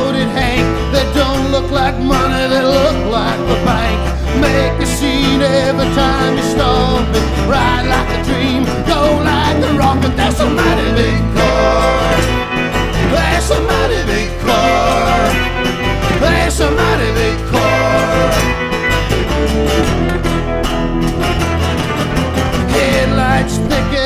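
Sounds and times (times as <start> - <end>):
song with singing and guitar: 0.0 - 24.0.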